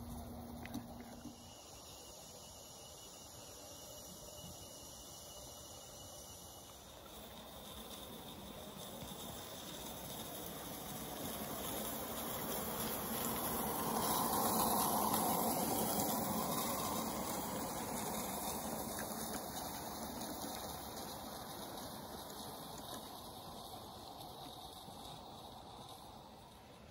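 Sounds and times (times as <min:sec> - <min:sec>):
model steam locomotive hissing: 0:01.1 - 0:26.9.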